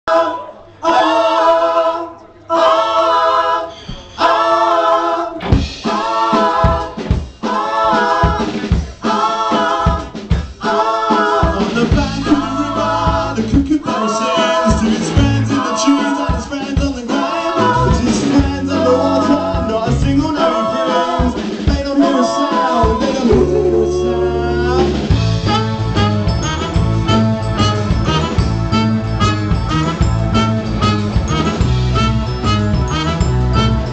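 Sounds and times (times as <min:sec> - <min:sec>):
voices singing in harmony: 0:00.1 - 0:28.2
bass: 0:00.1 - 0:33.9
drum beat: 0:05.5 - 0:33.8.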